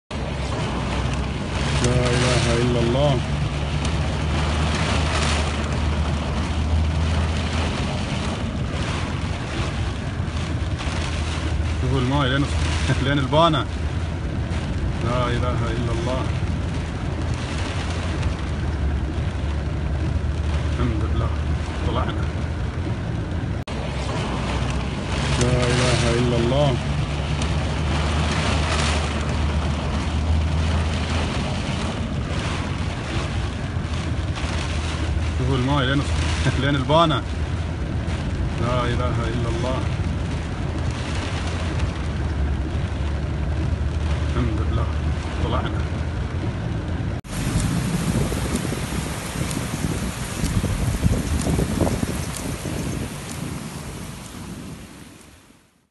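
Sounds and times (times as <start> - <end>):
water hissing and washing: 0.1 - 46.4, 47.0 - 55.8
low engine rumble: 0.1 - 55.8
rain: 0.1 - 55.9
splashing floodwater: 0.1 - 55.9.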